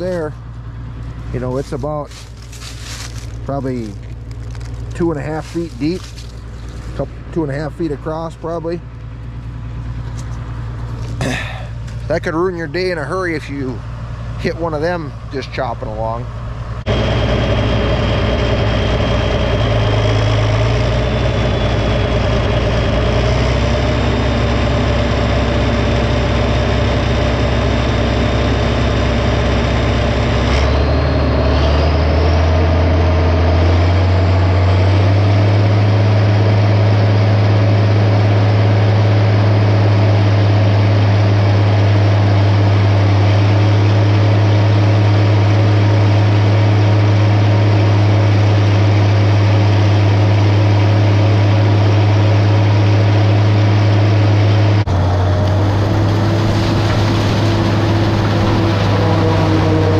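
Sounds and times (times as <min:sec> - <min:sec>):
high whine: 0:00.0 - 0:59.9
tractor diesel engine: 0:00.0 - 0:59.9.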